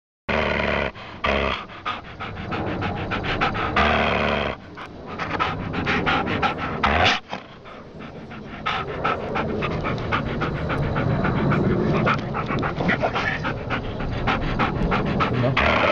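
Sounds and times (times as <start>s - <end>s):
dog panting: 0.3s - 15.9s.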